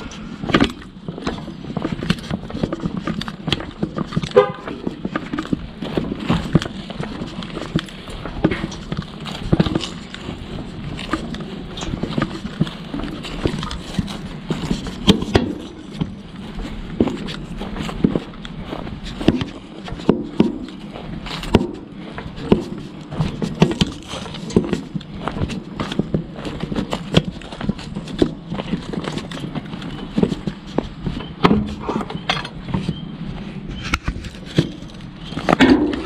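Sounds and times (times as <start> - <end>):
footsteps on pavement and grass: 0.0 - 36.0.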